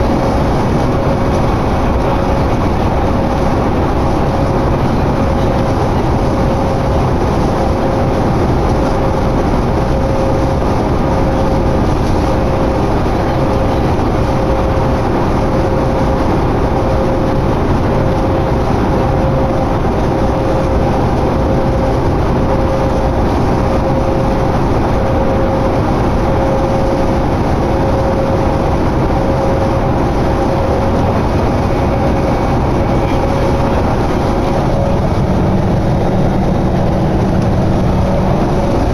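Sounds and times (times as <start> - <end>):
bus engine and road drone: 0.0 - 38.9
constant whine: 0.0 - 38.9.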